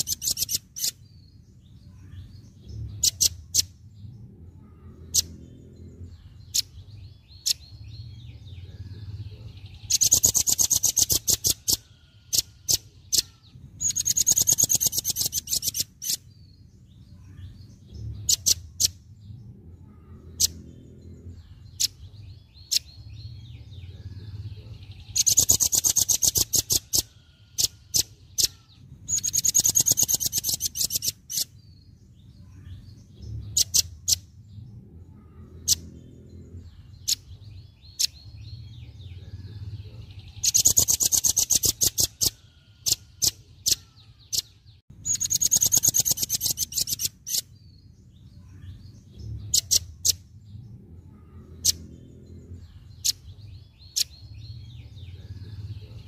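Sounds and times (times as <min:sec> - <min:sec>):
bird chattering trills: 0:00.0 - 0:03.9, 0:04.6 - 0:16.4, 0:17.1 - 0:56.0
bird high chirps: 0:00.0 - 0:56.0.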